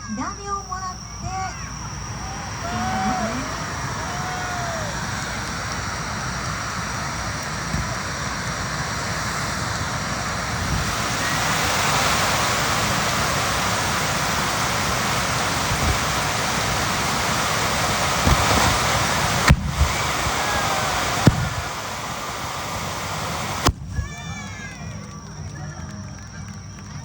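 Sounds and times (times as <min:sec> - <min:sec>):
firework spraying sparks hissing: 0:00.0 - 0:25.0.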